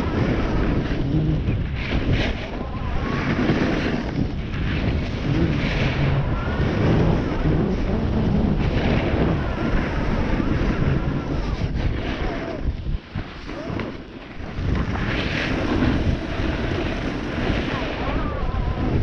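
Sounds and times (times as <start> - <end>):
snowboard scraping on snow: 0.0 - 19.0
wind buffeting microphone: 0.0 - 19.0.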